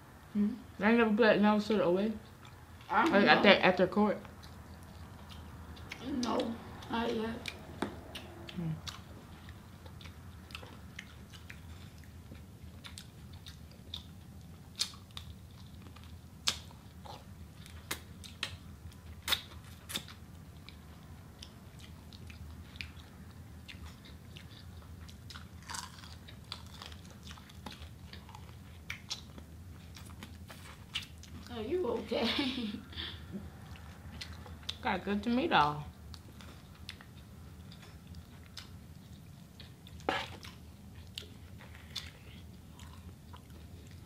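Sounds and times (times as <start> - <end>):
faint steady low hum: 0.0 - 44.0
people chewing chicken wings: 4.2 - 31.6, 32.4 - 34.8, 36.0 - 44.0.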